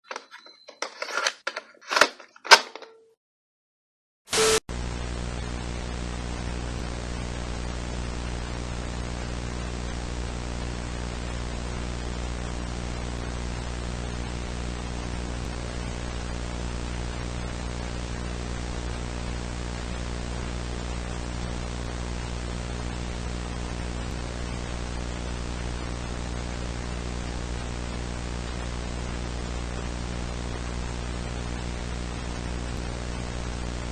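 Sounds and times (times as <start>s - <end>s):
static hiss: 4.3s - 33.9s
low buzzing hum: 4.4s - 33.9s.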